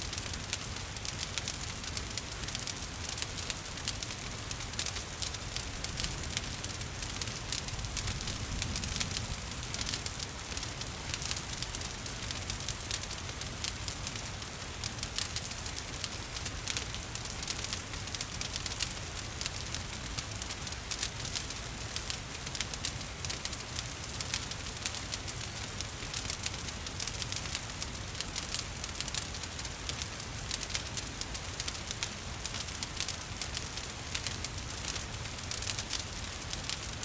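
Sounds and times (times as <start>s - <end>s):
rain falling: 0.0s - 37.0s
wood fire crackling: 0.0s - 37.0s.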